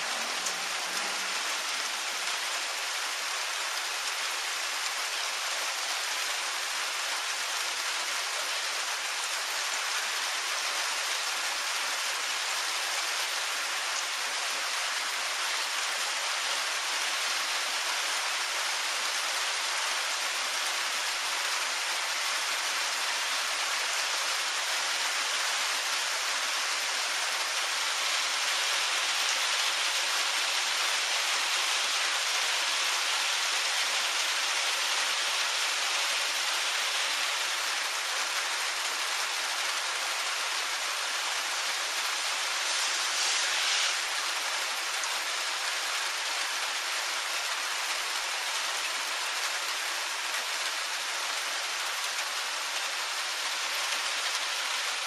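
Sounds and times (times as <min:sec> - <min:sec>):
soft rain on wet pavement: 0:00.0 - 0:55.0.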